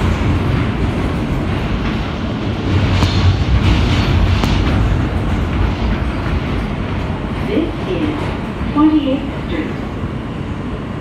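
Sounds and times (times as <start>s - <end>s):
subway wheels rumbling on rails: 0.0s - 11.0s.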